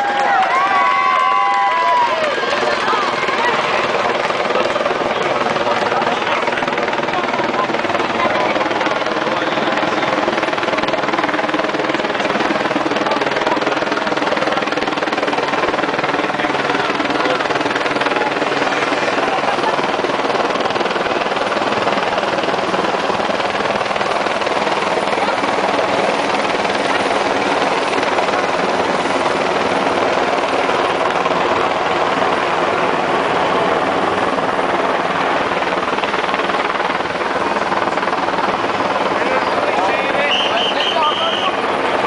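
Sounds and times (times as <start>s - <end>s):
helicopter flying overhead: 0.0s - 42.0s.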